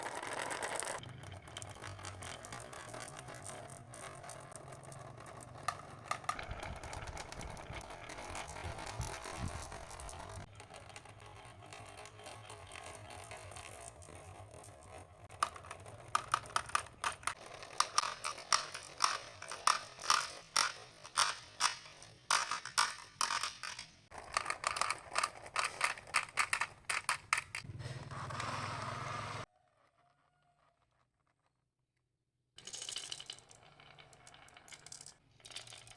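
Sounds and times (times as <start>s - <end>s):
marbles rolling down a track: 0.0s - 27.6s, 32.6s - 35.9s
marbles clicking and clacking: 0.0s - 27.7s, 32.6s - 35.9s.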